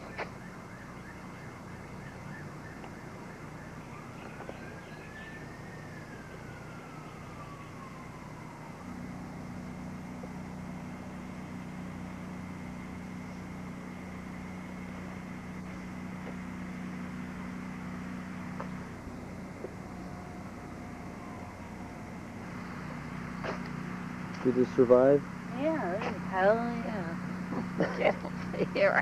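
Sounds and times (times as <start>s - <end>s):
siren winding down: 0.0s - 27.8s
steady low hum: 0.0s - 29.0s.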